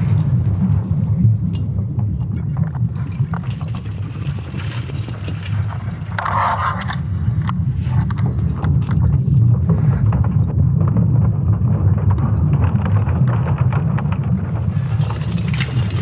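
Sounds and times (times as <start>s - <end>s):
crackles and clicks: 0.0s - 16.0s
deep rumble: 0.0s - 16.0s
noisy rush: 0.0s - 16.0s.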